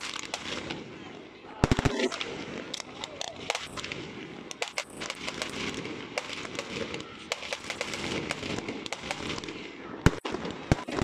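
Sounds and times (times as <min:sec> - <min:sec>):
fireworks cracking and popping: 0:00.0 - 0:00.9, 0:01.6 - 0:11.0.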